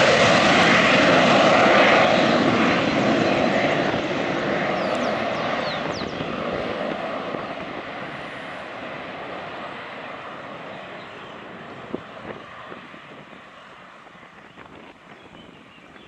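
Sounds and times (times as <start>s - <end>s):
jet engines: 0.0s - 16.0s.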